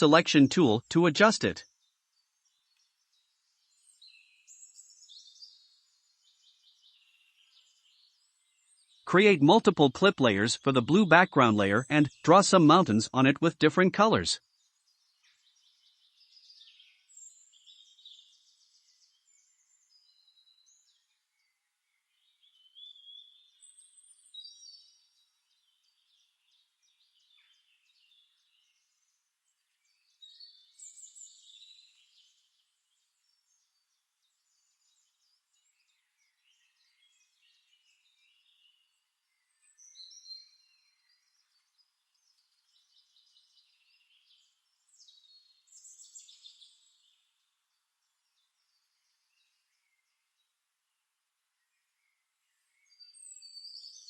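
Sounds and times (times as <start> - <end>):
faint songbirds chirping: 0.0 - 54.0.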